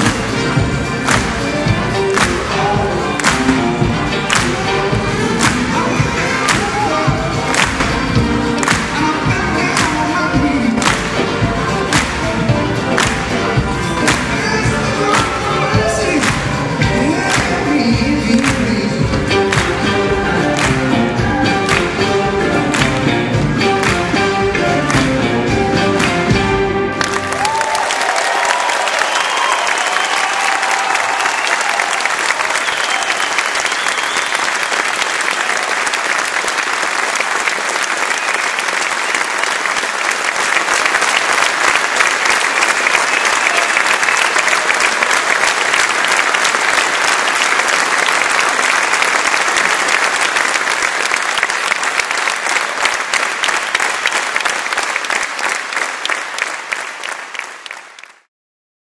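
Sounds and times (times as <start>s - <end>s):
audience applauding: 0.0s - 58.3s.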